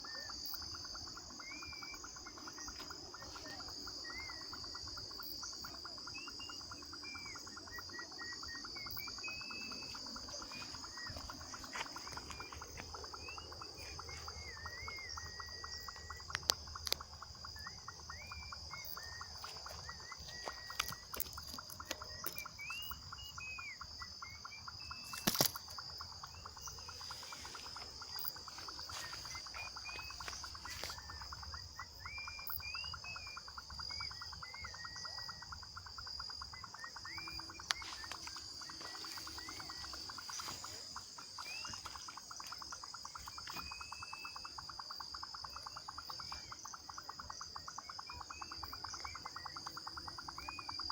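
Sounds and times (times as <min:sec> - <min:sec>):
insect pulsing trill: 0:00.0 - 0:50.9
insects high-pitched buzz: 0:00.0 - 0:50.9.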